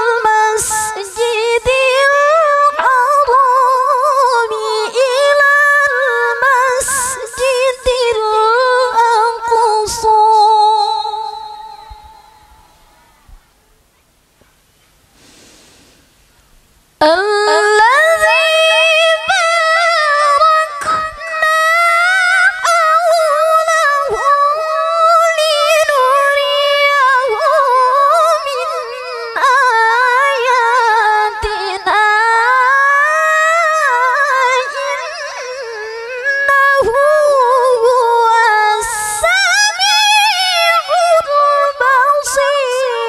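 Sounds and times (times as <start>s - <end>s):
woman reciting melodically: 0.0s - 13.0s, 17.0s - 43.0s.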